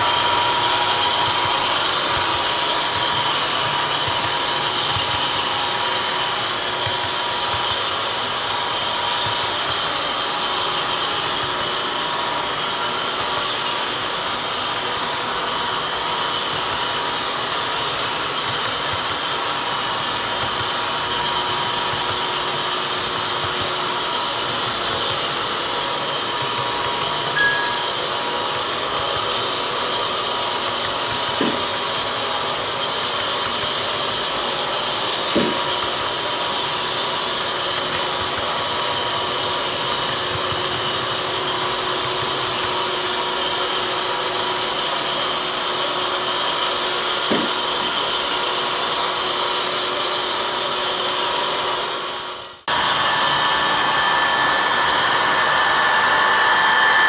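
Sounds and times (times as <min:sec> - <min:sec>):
model train whirring: 0:00.0 - 0:57.0.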